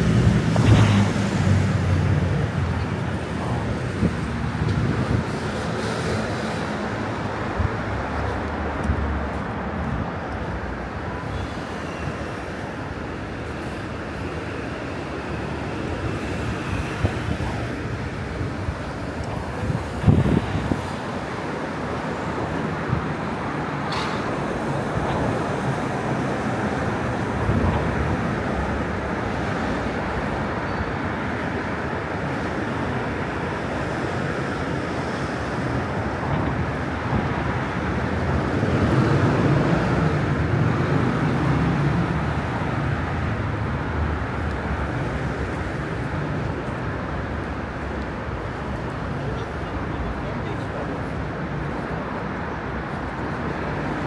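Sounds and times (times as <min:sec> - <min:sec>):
city street traffic: 0:00.0 - 0:54.0.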